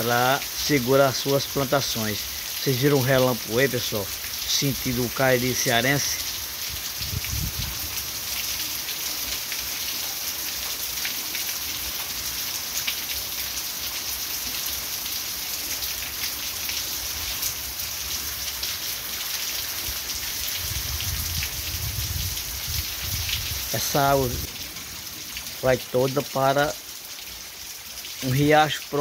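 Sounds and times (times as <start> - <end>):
heavy rain pattering: 0.0 - 29.0
water pouring off roof: 0.0 - 29.0.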